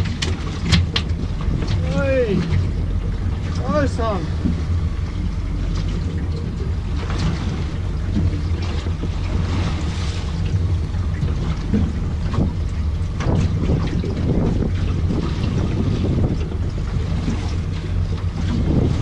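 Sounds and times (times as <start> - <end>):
hiss of wind and water: 0.0 - 19.0
low rumble: 0.0 - 19.0
wind buffeting microphone: 0.0 - 19.0.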